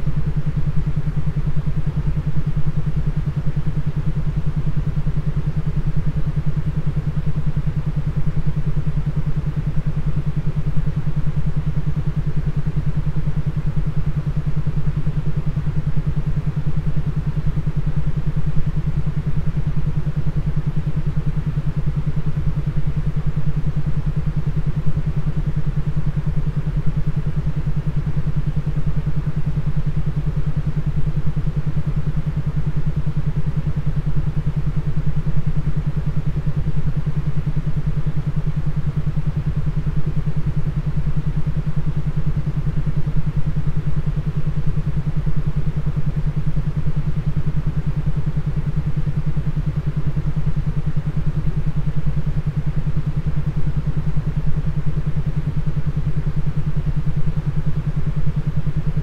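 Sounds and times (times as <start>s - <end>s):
throbbing low hum: 0.0s - 59.0s.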